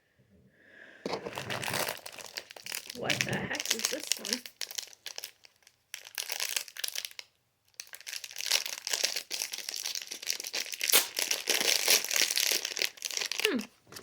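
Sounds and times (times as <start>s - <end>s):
plastic packaging crinkling: 1.1s - 14.0s.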